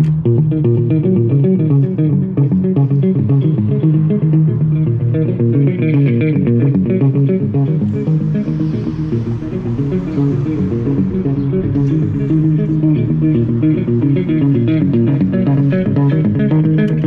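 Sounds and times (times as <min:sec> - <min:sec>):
bass guitar plucked notes: 0:00.0 - 0:17.0
guitar music: 0:00.0 - 0:17.0.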